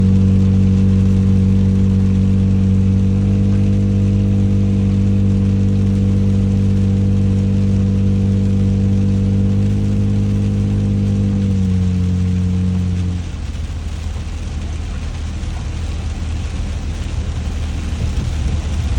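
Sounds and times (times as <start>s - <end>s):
low engine hum: 0.0s - 18.9s.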